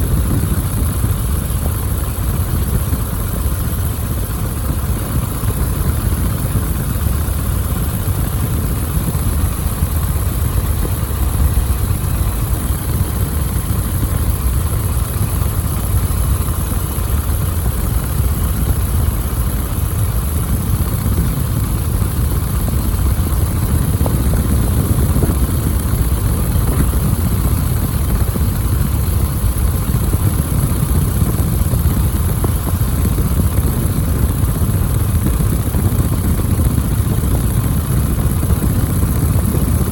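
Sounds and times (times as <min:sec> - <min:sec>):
biplane engine and propeller: 0:00.0 - 0:39.9.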